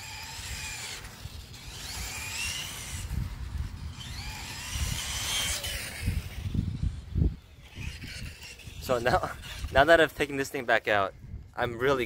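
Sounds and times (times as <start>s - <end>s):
toy car electric motor whining: 0.0s - 10.6s.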